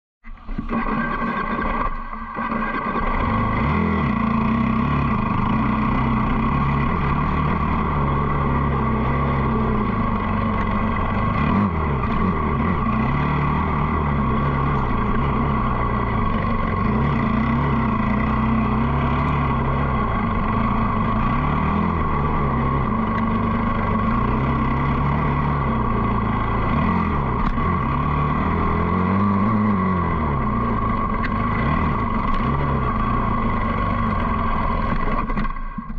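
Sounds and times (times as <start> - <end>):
dirt bike engine revving: 0.3 - 35.7.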